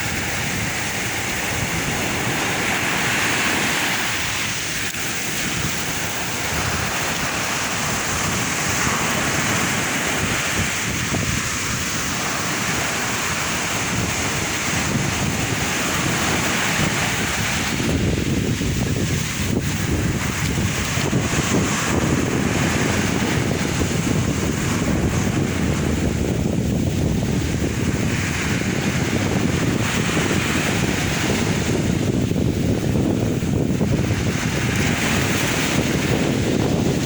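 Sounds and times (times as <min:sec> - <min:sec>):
sea waves breaking on shore: 0:00.0 - 0:37.0
wind buffeting microphone: 0:00.0 - 0:37.0.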